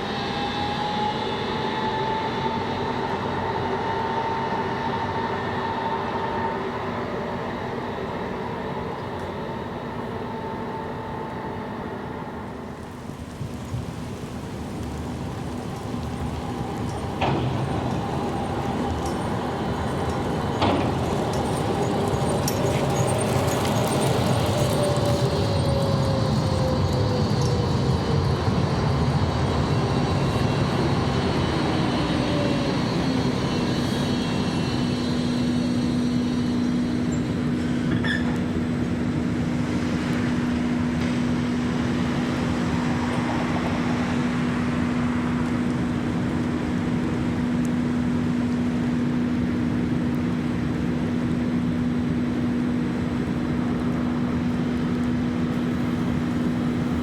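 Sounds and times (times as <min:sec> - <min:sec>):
electric tram motor whine: 0:00.0 - 0:57.0.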